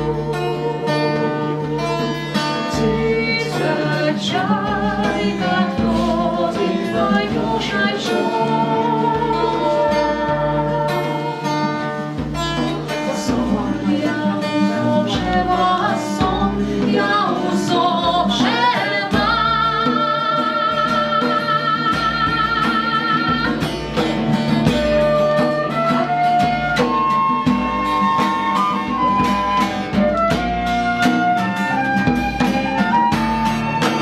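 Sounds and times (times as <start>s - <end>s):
live band music: 0.0s - 34.0s.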